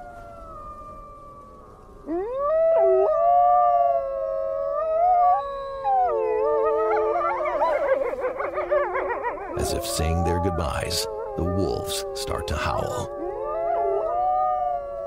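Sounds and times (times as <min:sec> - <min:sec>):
wolves howling: 0:00.4 - 0:15.0.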